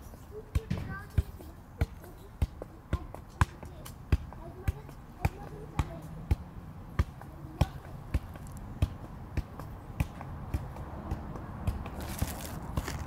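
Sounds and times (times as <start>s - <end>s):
soccer ball thumps: 0.5s - 13.0s.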